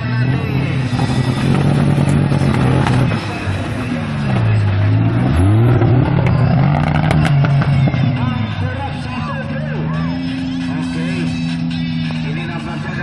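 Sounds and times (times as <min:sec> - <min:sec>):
buggy engine revving under load: 0:00.0 - 0:13.0.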